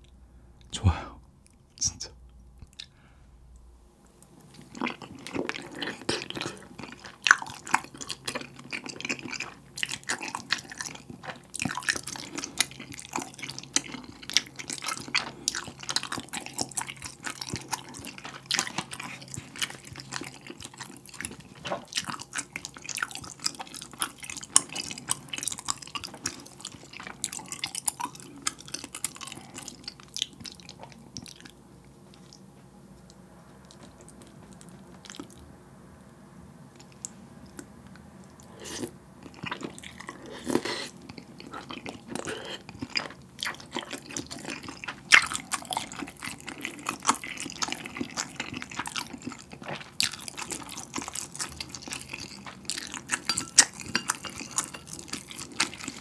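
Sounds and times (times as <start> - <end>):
chewing rice cake: 4.4 - 35.5, 36.8 - 56.0.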